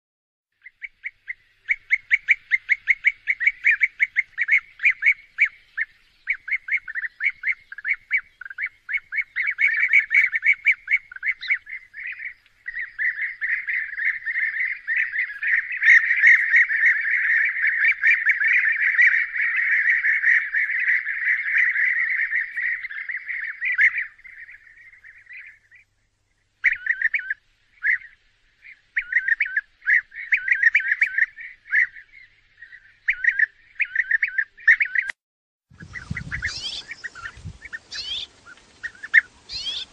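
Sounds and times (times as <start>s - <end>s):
birds rolling calls: 0.6s - 25.9s, 26.6s - 35.2s, 35.8s - 39.9s.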